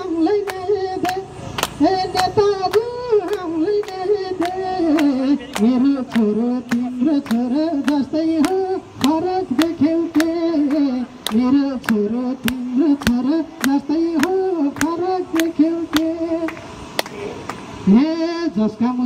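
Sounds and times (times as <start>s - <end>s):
person singing: 0.0s - 16.6s.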